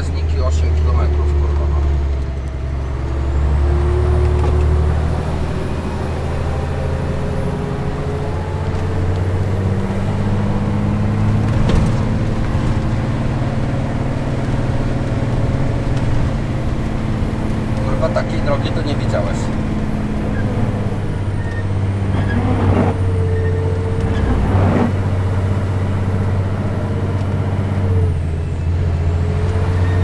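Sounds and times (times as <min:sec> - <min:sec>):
truck diesel engine running: 0:00.0 - 0:30.0.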